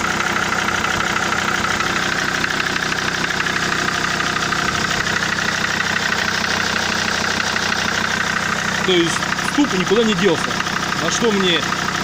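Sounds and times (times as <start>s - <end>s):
diesel engine idling with knock: 0.0s - 12.0s.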